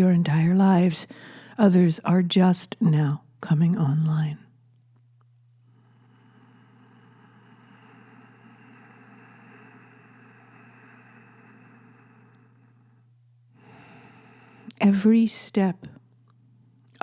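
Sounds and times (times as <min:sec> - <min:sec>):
faint background noise: 0:00.0 - 0:17.0
low hum: 0:00.0 - 0:17.0.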